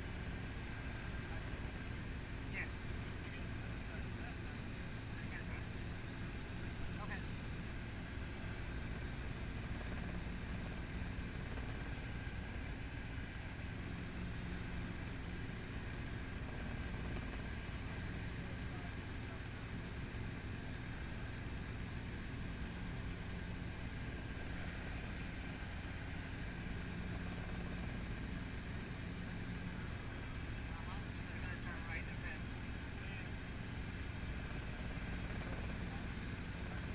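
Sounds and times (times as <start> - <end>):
helicopter engine and rotor: 0.0 - 36.9.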